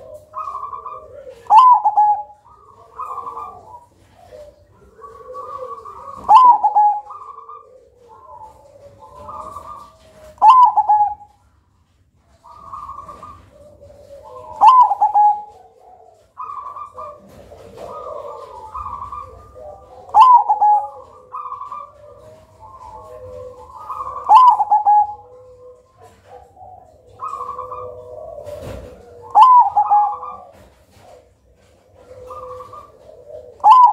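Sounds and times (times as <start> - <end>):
dove cooing song: 0.0 - 33.9.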